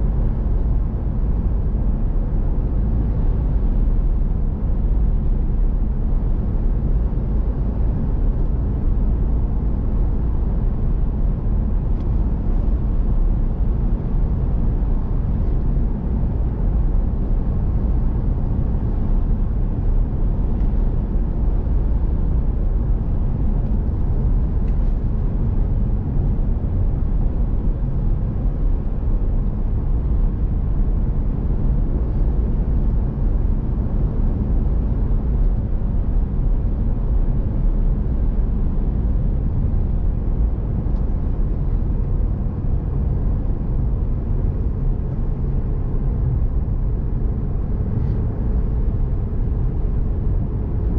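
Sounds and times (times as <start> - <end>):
engine and tyre rumble: 0.0 - 50.9.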